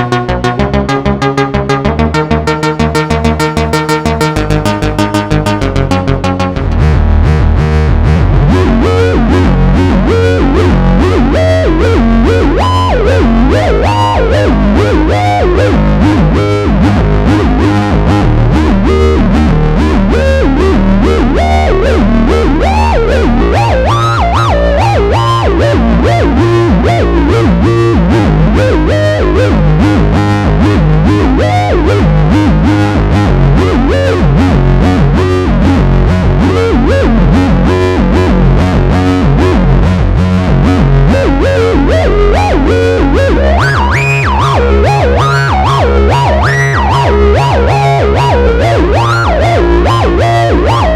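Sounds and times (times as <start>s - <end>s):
distorted synthesizer lead: 0.0s - 50.9s
fast repeating synth bass: 0.0s - 50.9s.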